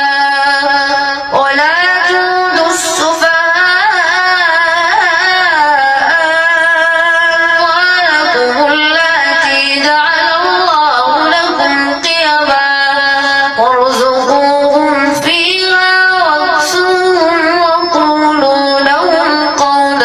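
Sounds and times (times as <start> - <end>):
boy chanting melodic recitation: 0.0 - 20.0.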